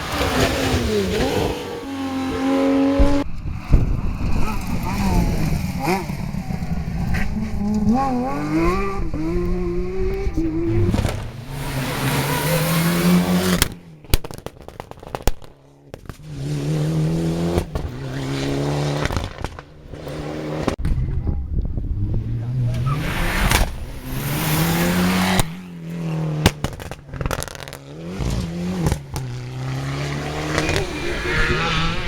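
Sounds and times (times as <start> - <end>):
rally car engine revving: 0.0 - 14.8, 16.0 - 20.8, 21.9 - 32.0.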